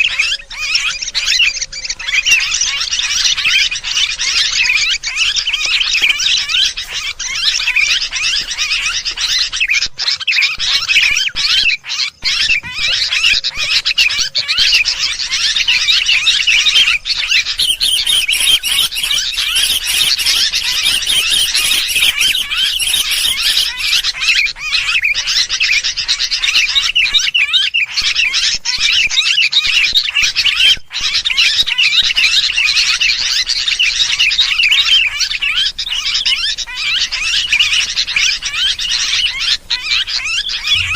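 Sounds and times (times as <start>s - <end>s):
bulbuls chattering: 0.0s - 40.9s.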